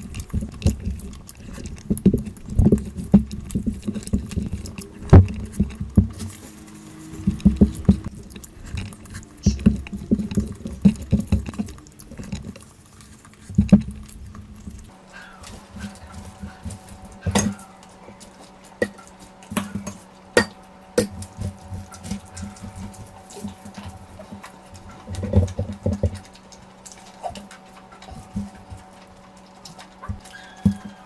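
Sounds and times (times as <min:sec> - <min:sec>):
steady low hum: 0:00.0 - 0:31.0
wet chewing and smacking: 0:00.0 - 0:31.0.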